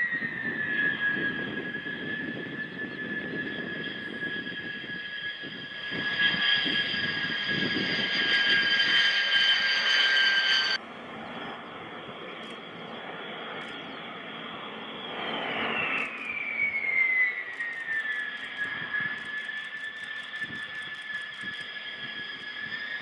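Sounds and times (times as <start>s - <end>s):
jet engines rushing and whining: 0.0s - 23.0s.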